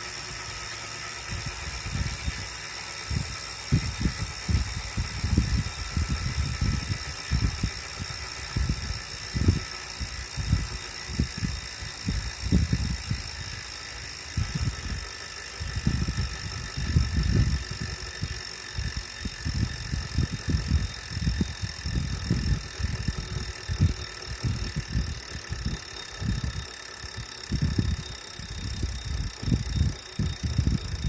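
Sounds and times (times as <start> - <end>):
bike trainer high whine: 0.0 - 31.0
bike trainer knocking and rumbling: 0.0 - 31.0.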